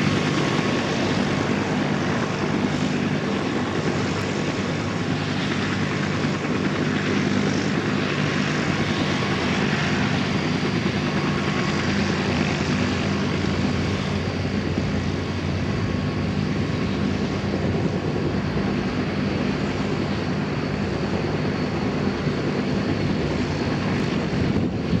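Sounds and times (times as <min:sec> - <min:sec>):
propeller drone: 0:00.0 - 0:25.0.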